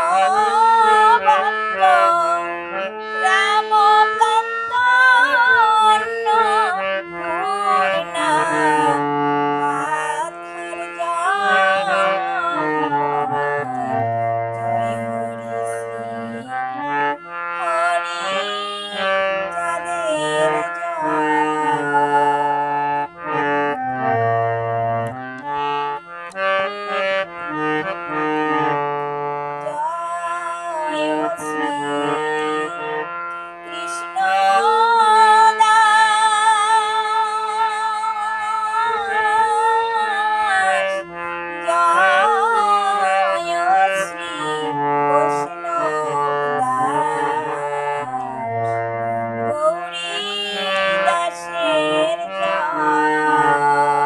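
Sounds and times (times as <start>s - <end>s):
devotional song: 0.0s - 54.0s.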